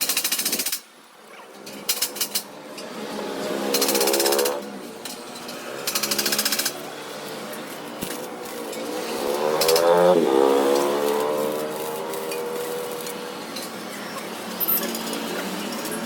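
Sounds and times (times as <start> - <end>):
welding crackling buzz: 1.6 - 16.0.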